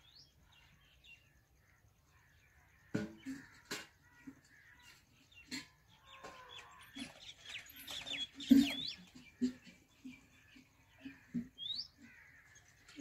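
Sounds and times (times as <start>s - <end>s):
birds chirping: 0.0s - 13.0s
low clucking bird calls: 0.0s - 13.0s.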